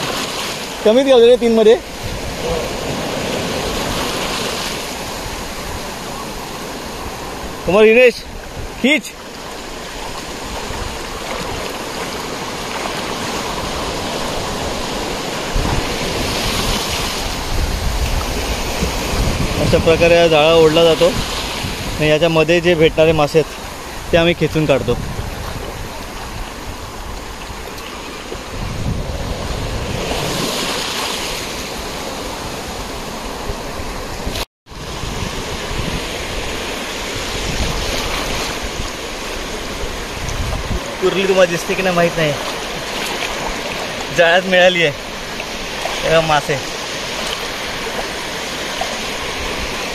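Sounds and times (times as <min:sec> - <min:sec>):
wind rumbling on microphone: 0:00.0 - 0:08.8, 0:09.4 - 0:44.2, 0:45.0 - 0:49.9
sea surf washing: 0:00.0 - 0:49.9.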